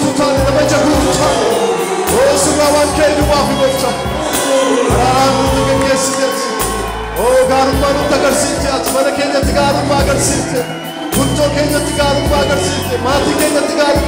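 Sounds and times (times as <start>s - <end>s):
instrumental backing with bass: 0.0s - 14.0s
person singing worship song: 0.0s - 14.0s.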